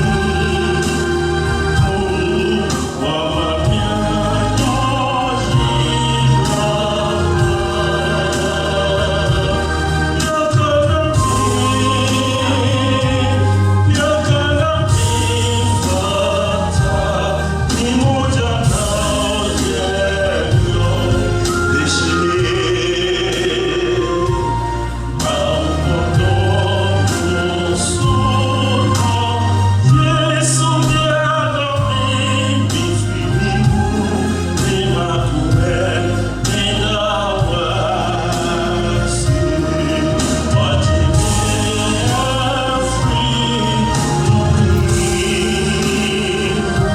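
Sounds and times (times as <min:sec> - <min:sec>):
choir singing a hymn: 0:00.0 - 0:46.9
low bass accompaniment: 0:00.0 - 0:46.9.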